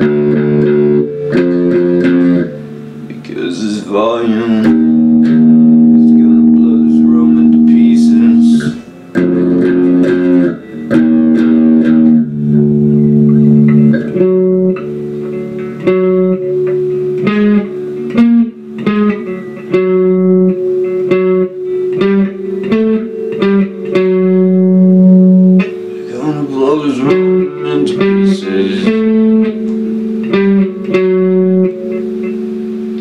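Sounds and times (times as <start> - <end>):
guitar riff: 0.0 - 33.0.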